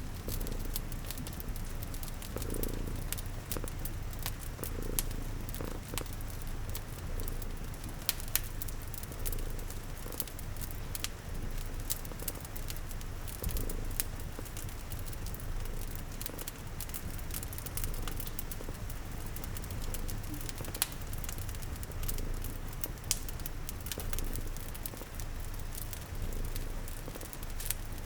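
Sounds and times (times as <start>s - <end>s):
cat purring: 0.0s - 28.0s
rain pattering: 0.0s - 28.0s
wood fire crackling: 0.0s - 28.0s.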